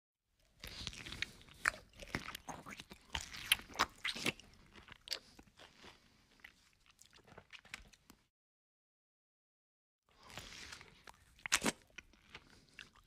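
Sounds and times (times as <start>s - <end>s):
person chewing egg: 0.4s - 8.2s, 10.1s - 13.0s.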